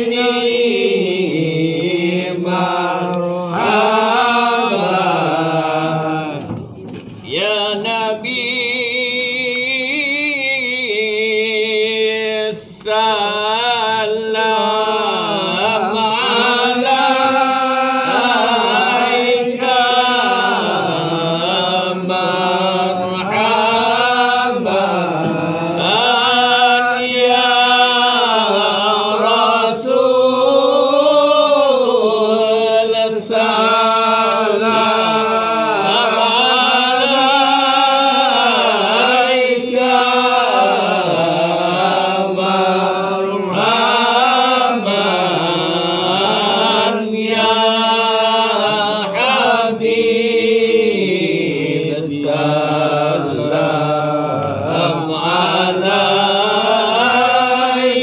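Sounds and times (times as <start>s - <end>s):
men chanting in unison: 0.0s - 6.5s, 7.2s - 58.0s.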